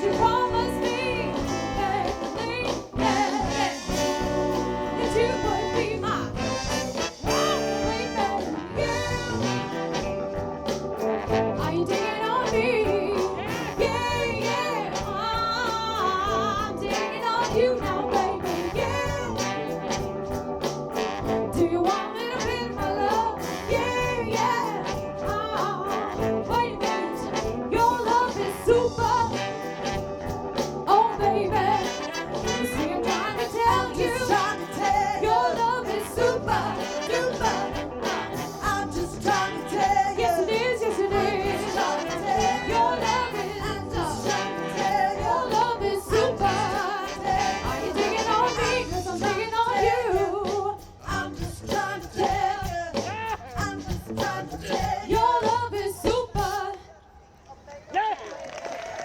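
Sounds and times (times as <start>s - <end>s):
soul band with horns: 0.0s - 59.0s.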